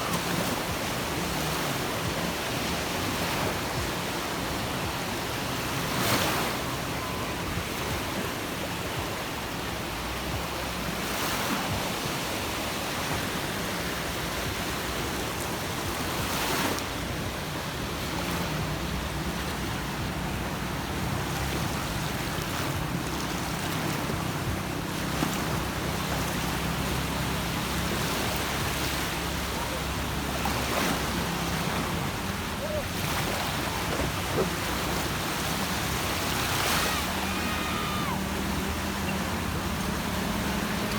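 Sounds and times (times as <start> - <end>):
sea waves washing onto beach: 0.0 - 40.9.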